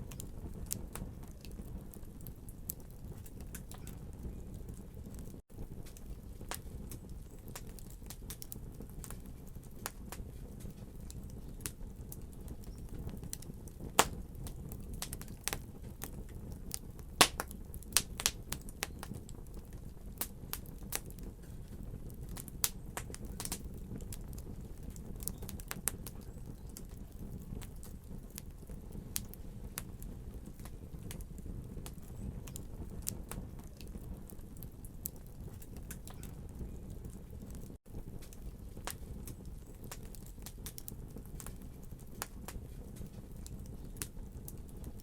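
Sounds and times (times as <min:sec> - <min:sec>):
fire flames rumbling: 0:00.0 - 0:45.0
wood fire crackling and popping: 0:00.0 - 0:45.0.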